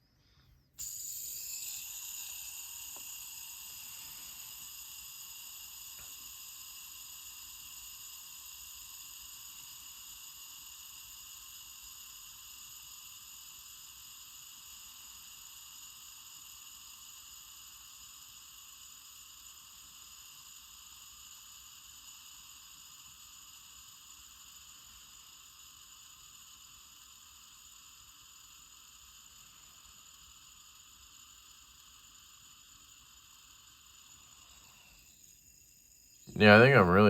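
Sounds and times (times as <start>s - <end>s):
fidget spinner whirring: 0.3s - 37.0s.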